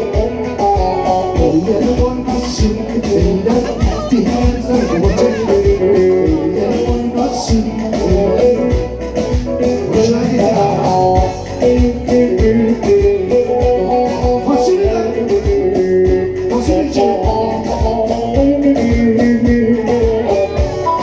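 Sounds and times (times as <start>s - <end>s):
folk music through pa system: 0.0s - 21.0s
keyboard: 0.0s - 21.0s
steady drum beat: 0.0s - 21.0s.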